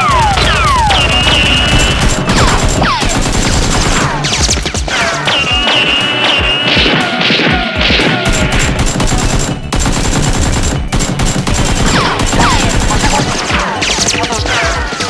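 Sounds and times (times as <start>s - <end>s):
background music: 0.0s - 15.0s
gunfire sound effects: 0.0s - 15.0s.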